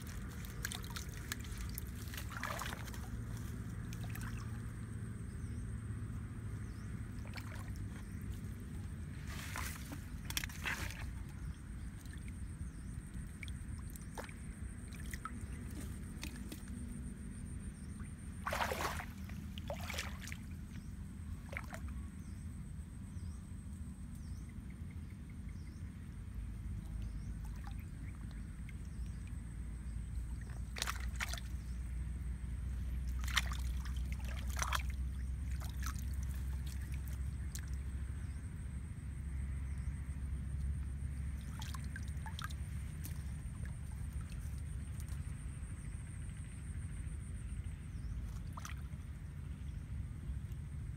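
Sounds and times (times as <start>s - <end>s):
muddy water sloshing and splashing: 0.0s - 22.5s, 26.4s - 38.4s, 39.4s - 50.9s
low steady rumble: 0.0s - 50.9s.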